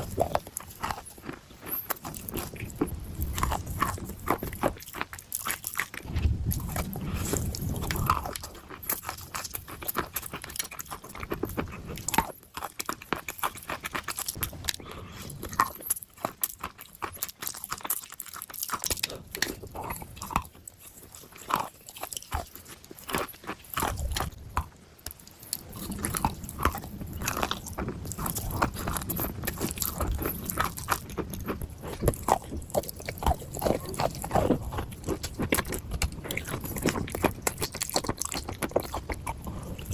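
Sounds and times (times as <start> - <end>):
dry clay crunching when chewed: 0.0 - 39.9.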